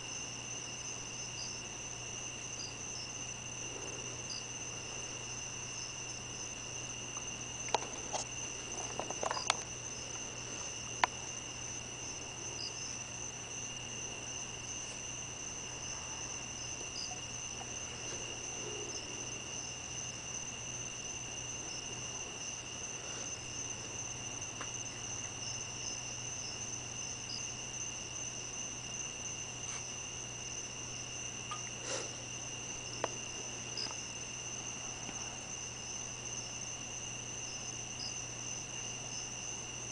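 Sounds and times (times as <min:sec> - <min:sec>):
crickets trilling: 0:00.0 - 0:39.9
low steady hum: 0:00.0 - 0:39.9.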